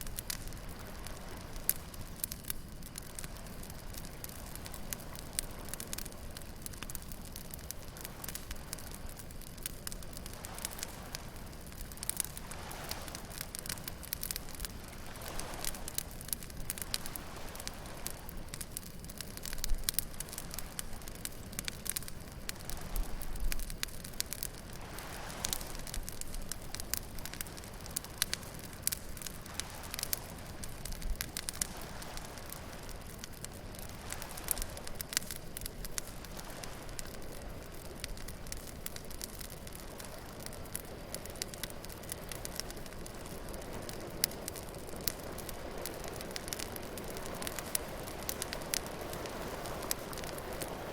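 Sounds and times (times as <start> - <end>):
bonfire crackling and popping: 0.0 - 50.9
waves washing in: 0.0 - 50.9.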